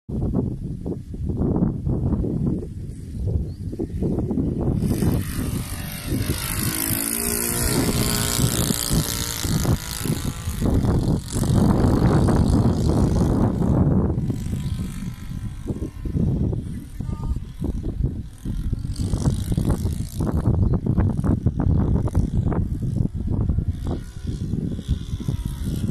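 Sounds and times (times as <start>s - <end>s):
model plane motor and propeller: 0.1s - 25.9s.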